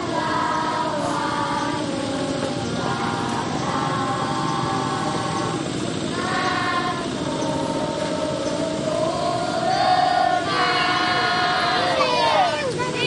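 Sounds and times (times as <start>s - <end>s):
group of voices singing: 0.0s - 13.0s
steady hiss: 0.0s - 13.0s.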